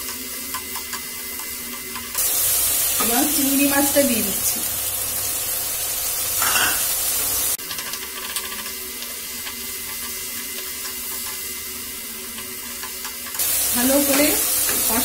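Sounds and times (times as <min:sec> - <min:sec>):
prawns sizzling in oil: 0:00.0 - 0:15.0.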